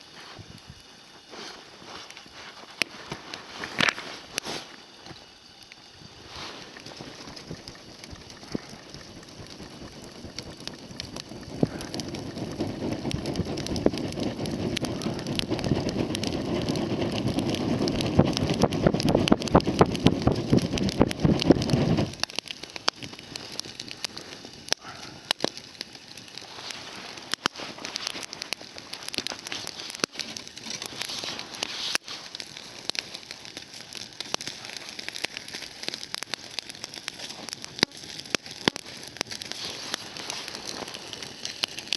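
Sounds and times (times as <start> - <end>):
low rush of fire: 0.0 - 41.9
wood fire crackling and popping: 0.0 - 41.9.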